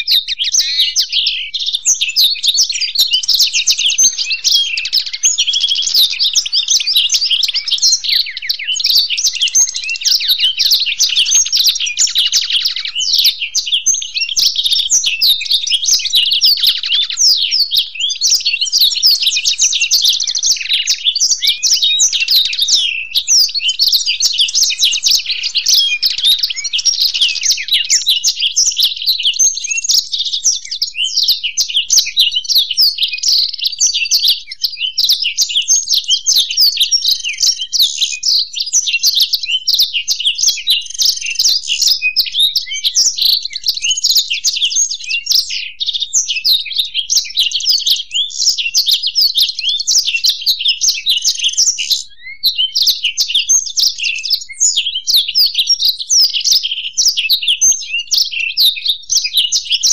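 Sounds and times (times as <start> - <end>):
songbirds twittering and trilling: 0.0 - 59.9.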